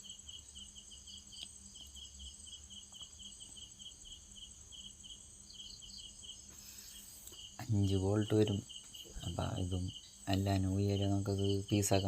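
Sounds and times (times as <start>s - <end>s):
crickets chirping: 0.0s - 12.0s
high insect drone: 0.0s - 12.0s.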